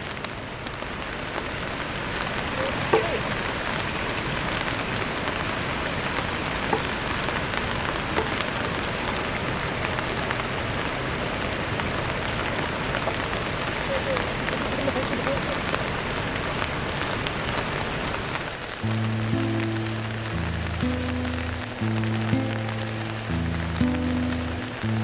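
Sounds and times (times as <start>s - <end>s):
rain hissing: 0.0s - 25.0s
raindrops tapping: 0.0s - 25.0s.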